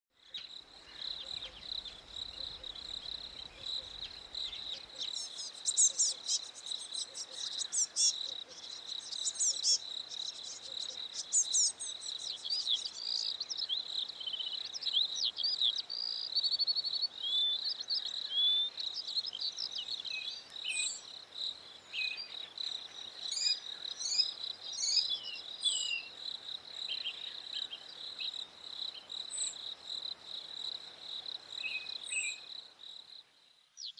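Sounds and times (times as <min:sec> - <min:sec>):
crickets chirping: 0:00.2 - 0:33.9.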